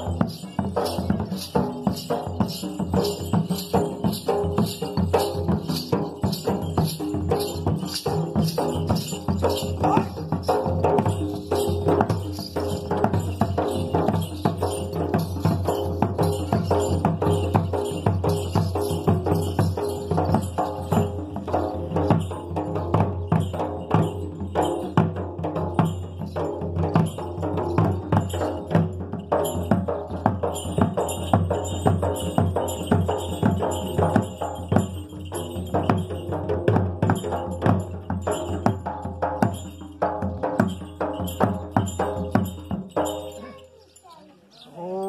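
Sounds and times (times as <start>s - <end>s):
folk drumming: 0.0s - 43.7s
jingling metal percussion: 0.0s - 45.0s.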